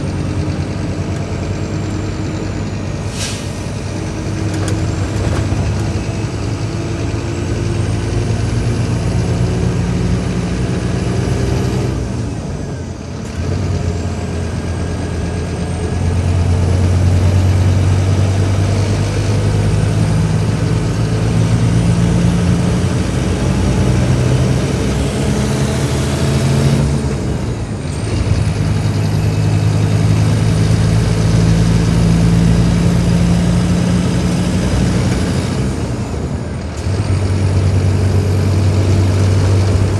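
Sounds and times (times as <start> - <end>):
bus diesel engine accelerating: 0.0 - 39.9.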